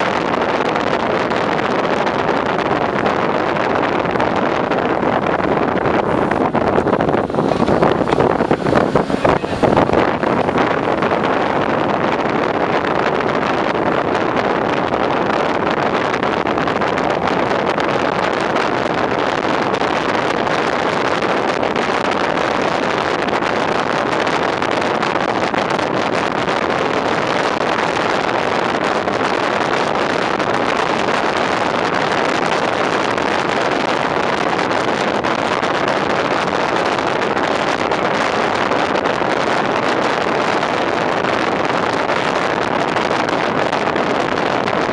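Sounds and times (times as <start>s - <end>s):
wind and road noise: 0.0s - 44.9s
wind buffeting microphone: 0.0s - 44.9s.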